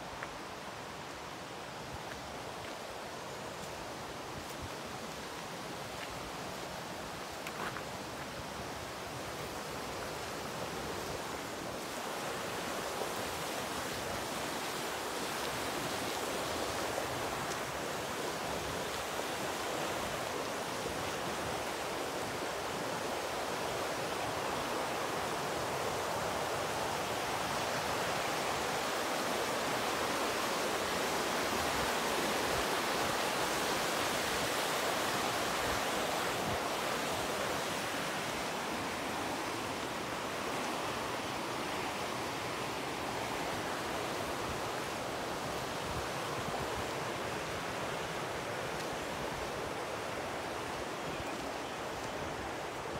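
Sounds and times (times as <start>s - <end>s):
river rushing over rocks: 0.0s - 52.9s.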